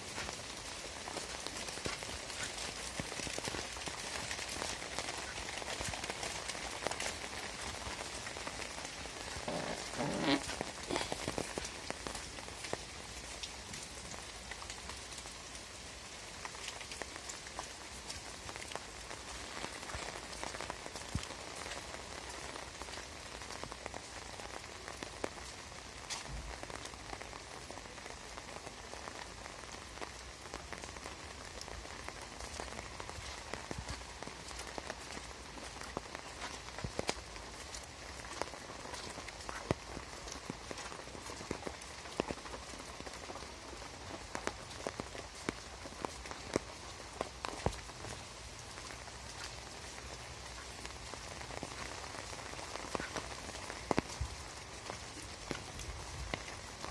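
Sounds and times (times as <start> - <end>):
rain falling on foliage: 0.0 - 56.9.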